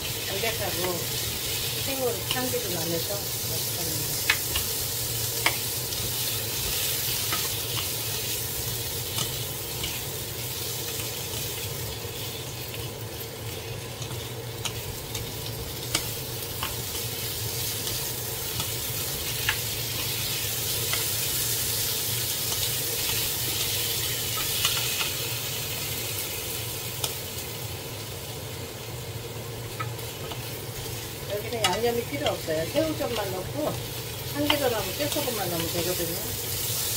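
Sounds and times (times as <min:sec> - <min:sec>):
vegetables sizzling in a frying pan: 0:00.0 - 0:36.9.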